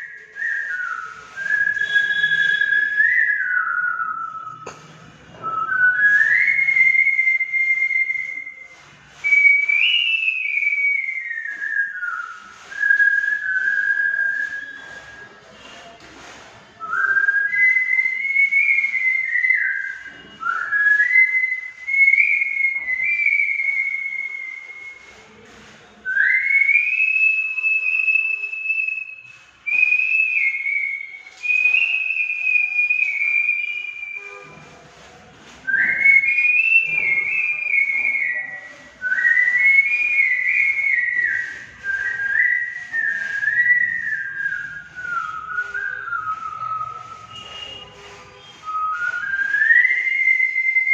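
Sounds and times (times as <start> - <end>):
man whistling a melody: 0.0 - 15.8, 16.8 - 34.6, 35.6 - 50.9.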